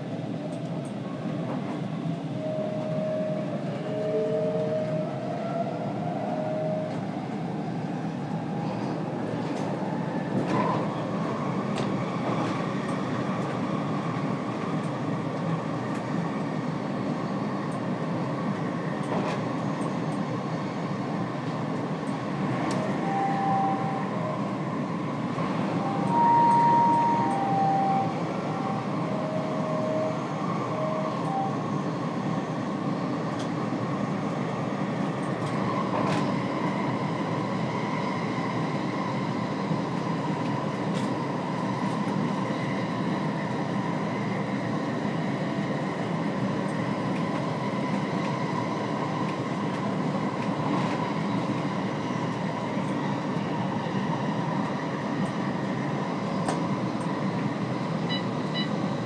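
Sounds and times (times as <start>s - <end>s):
metro train rumble and hum: 0.0s - 59.0s.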